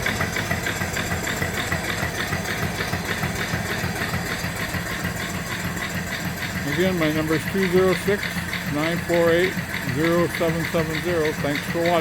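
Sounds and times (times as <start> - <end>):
steam engine exhaust chuffing: 0.0 - 12.0.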